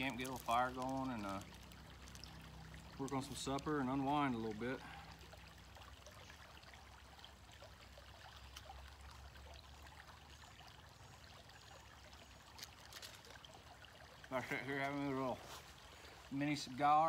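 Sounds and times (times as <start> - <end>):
shallow creek trickling: 0.0 - 17.0.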